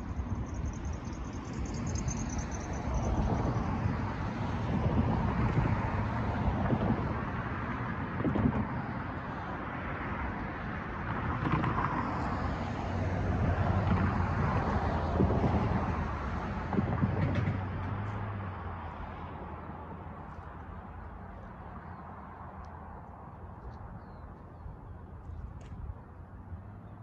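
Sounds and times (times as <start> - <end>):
cars passing over crossing: 0.0 - 27.0.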